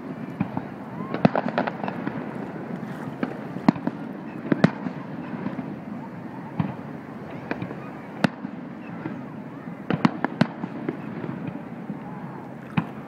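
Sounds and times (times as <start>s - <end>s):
steady background noise: 0.0s - 13.0s
fireworks bangs and pops: 0.3s - 5.8s, 6.5s - 9.2s, 9.9s - 12.0s, 12.7s - 13.0s.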